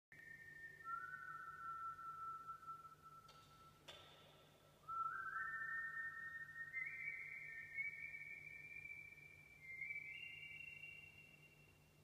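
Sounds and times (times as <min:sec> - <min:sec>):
person whistling with echo: 0:00.1 - 0:12.0.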